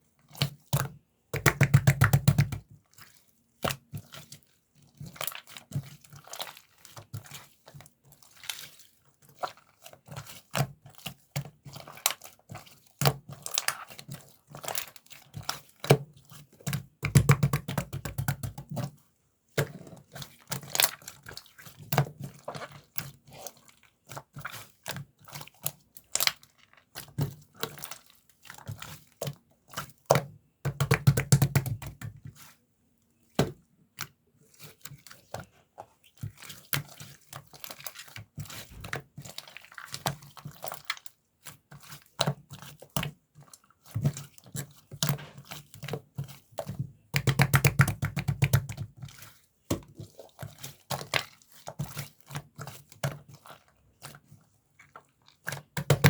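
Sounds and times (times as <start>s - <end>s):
slime squelches: 0.2s - 56.0s
hands squishing slime: 0.3s - 32.6s, 33.2s - 56.0s.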